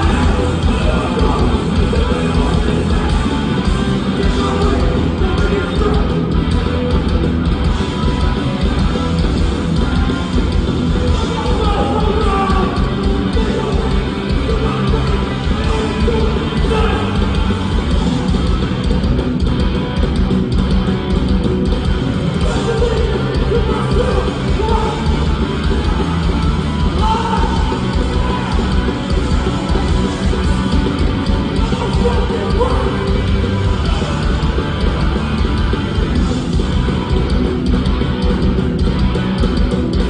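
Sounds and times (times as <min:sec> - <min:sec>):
punk band playing live: 0:00.0 - 0:40.0.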